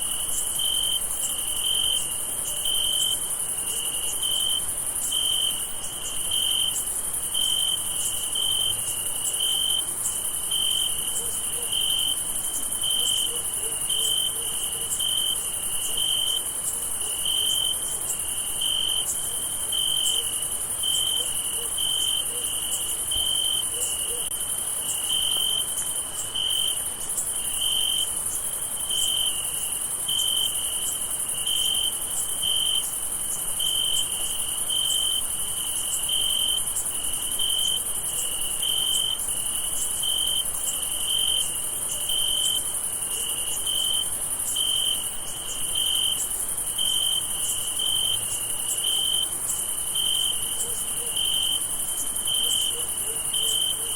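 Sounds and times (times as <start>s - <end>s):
crickets trilling: 0.0s - 53.9s
low cricket chirp: 0.0s - 53.9s.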